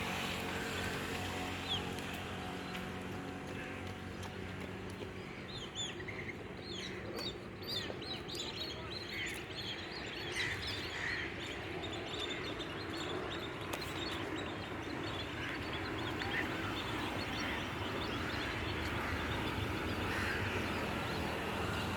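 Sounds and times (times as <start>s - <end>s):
flock of birds chirping: 0.0s - 21.9s.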